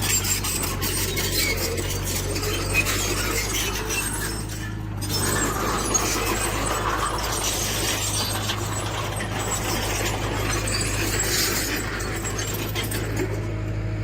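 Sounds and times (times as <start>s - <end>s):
clatter of rock and metal: 0.0s - 13.8s
diesel engine running: 0.0s - 14.0s.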